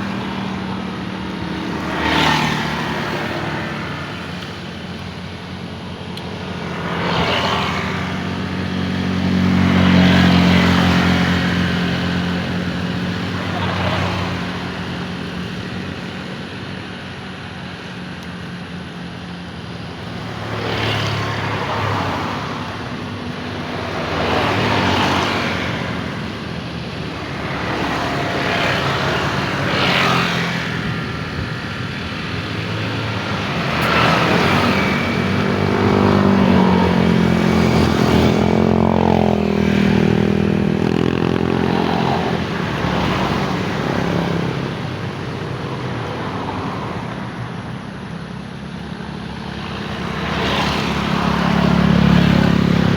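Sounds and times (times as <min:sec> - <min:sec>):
engine drone with shifting pitch: 0:00.0 - 0:52.9
vehicles passing: 0:00.0 - 0:52.9.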